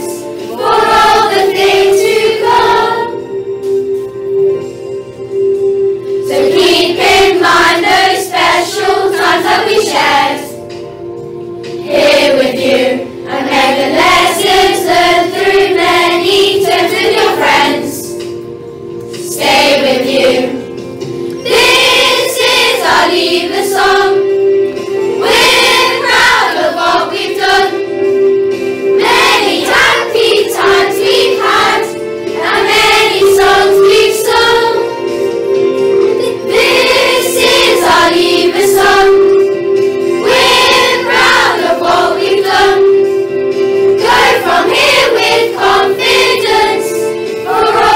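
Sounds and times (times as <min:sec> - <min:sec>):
children singing worship song: 0:00.0 - 0:03.3, 0:06.1 - 0:10.7, 0:11.7 - 0:18.3, 0:19.2 - 0:20.8, 0:21.4 - 0:24.4, 0:25.0 - 0:27.9, 0:29.0 - 0:35.3, 0:36.1 - 0:47.9
held accompanying notes: 0:00.0 - 0:47.9.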